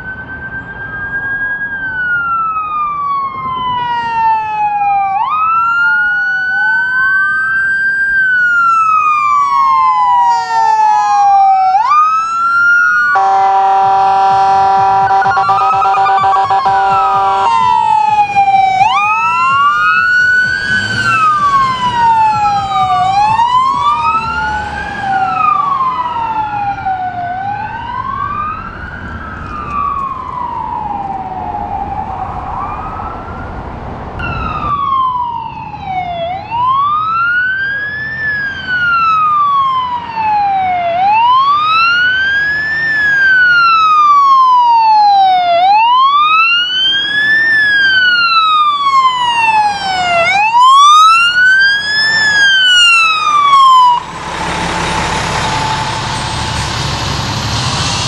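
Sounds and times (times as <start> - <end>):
emergency sirens wailing: 0.0 - 58.0.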